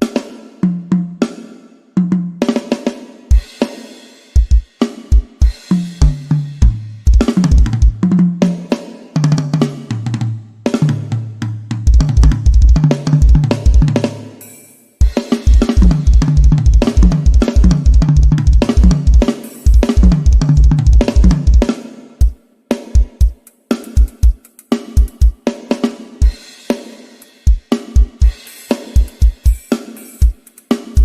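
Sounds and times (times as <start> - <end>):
drum kit groove: 0.0 - 31.0.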